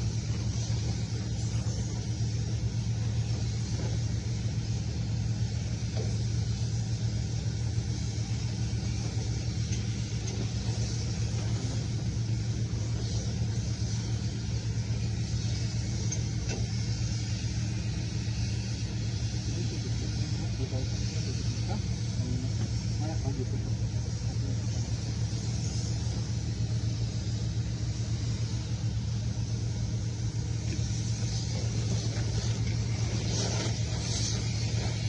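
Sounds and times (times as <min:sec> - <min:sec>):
hiss: 0:00.0 - 0:35.0
low mechanical rumble: 0:00.0 - 0:35.0.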